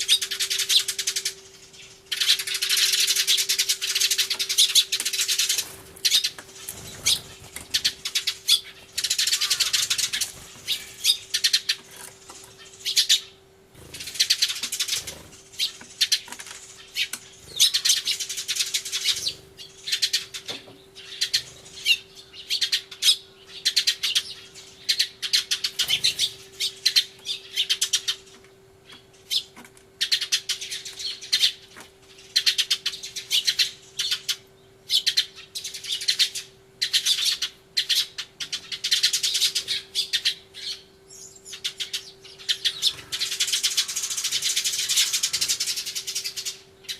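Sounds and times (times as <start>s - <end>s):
sparrows chirping: 0.0s - 46.9s.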